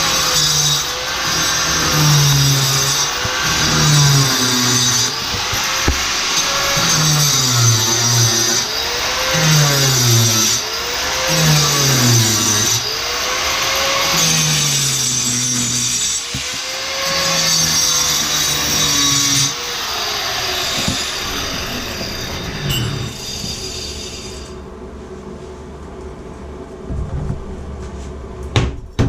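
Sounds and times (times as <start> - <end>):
power tool grinding through tile: 0.0 - 24.6.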